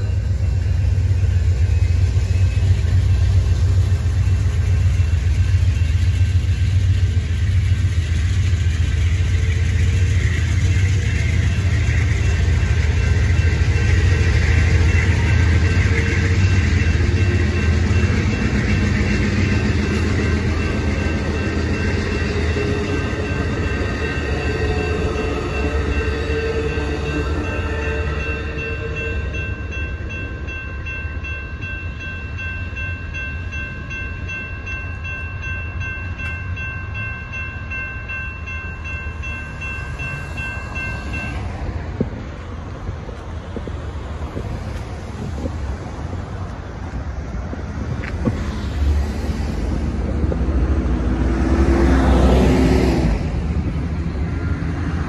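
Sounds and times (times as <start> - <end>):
crossing warning bell ringing: 0.0 - 48.3
passenger train rumbling past: 0.0 - 55.0
road traffic: 0.0 - 55.0.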